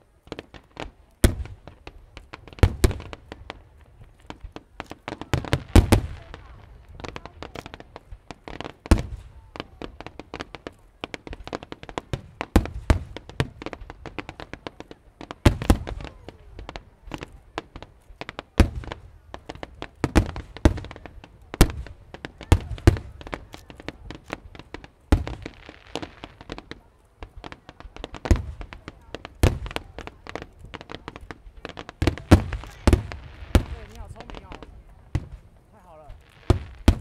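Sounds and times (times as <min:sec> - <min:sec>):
fireworks bangs and booms: 0:00.0 - 0:37.0
fireworks crackling: 0:00.0 - 0:37.0.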